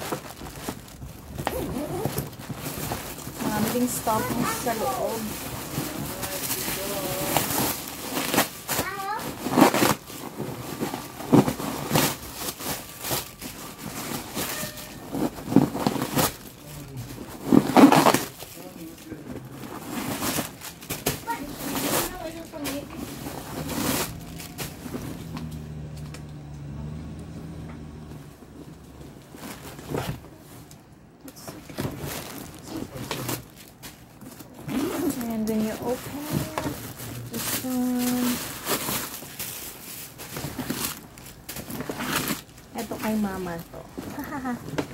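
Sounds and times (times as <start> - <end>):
paper crinkling and rustling: 0.0 - 25.7, 28.9 - 44.9.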